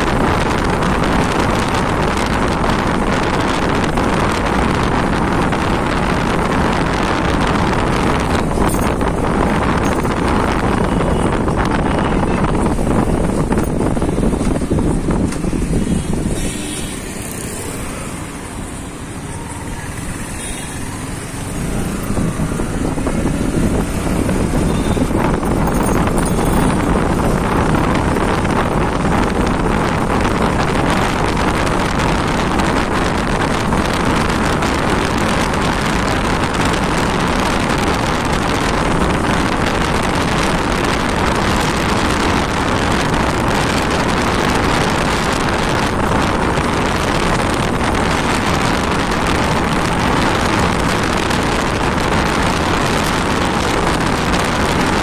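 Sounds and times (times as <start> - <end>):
motorcycle engine and road noise: 0.0 - 55.0
wind rushing over microphone: 0.0 - 55.0.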